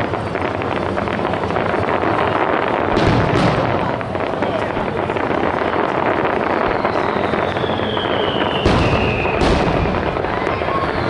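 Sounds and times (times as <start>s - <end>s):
falling firework whistle: 0.0s - 11.0s
firework crackling: 0.0s - 11.0s
loud firework bangs: 0.0s - 11.0s.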